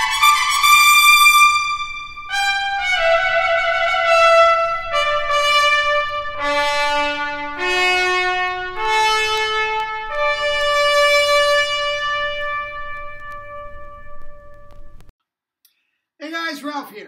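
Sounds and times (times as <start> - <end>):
trumpet playing long held notes: 0.0 - 15.1.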